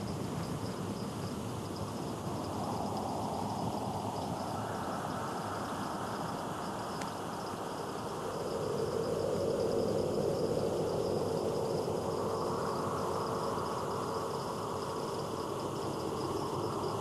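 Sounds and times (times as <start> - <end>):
high insect-like chirring: 0.0 - 17.0.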